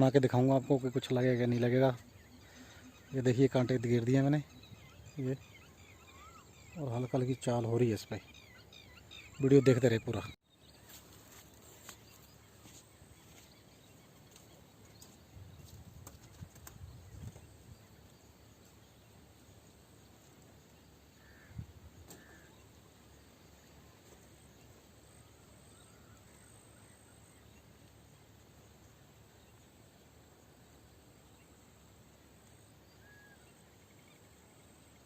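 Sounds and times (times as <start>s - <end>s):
faint chirps: 0.0s - 15.8s, 16.4s - 35.0s.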